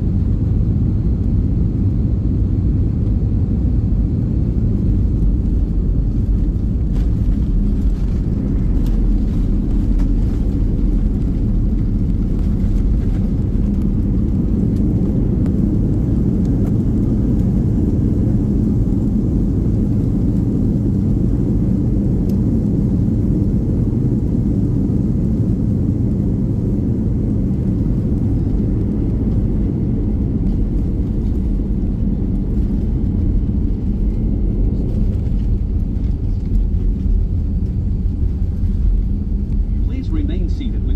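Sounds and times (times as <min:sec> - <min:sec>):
airplane rumble: 0:00.0 - 0:40.9.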